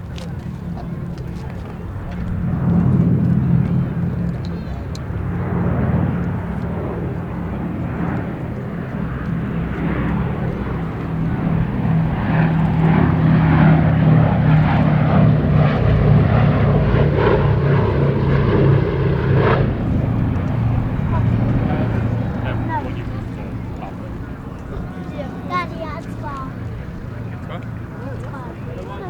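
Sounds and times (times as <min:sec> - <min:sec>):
propeller aircraft engines droning: 0:00.0 - 0:29.0.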